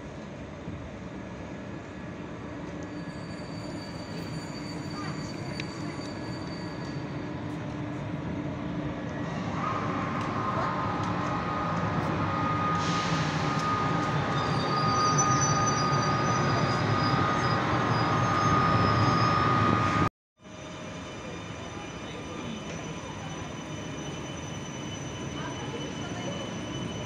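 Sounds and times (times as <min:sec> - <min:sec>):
high locomotive whine: 0:00.0 - 0:27.0
train rolling past: 0:00.0 - 0:27.0.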